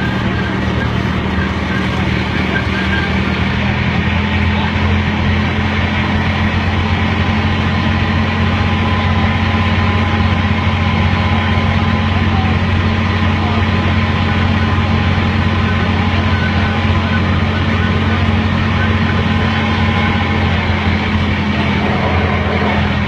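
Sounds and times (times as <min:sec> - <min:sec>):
low engine drone: 0:00.0 - 0:23.0
train rumbling: 0:00.0 - 0:23.0.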